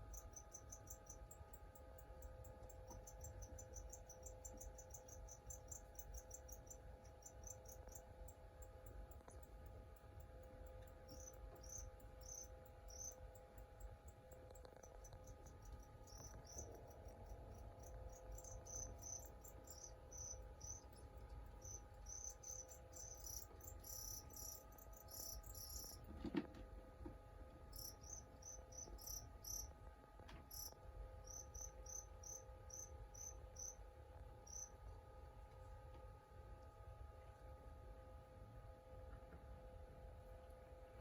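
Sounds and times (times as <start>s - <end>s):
crickets chirping: 0.0s - 26.1s, 27.6s - 35.0s
faint steady hum: 0.0s - 41.0s.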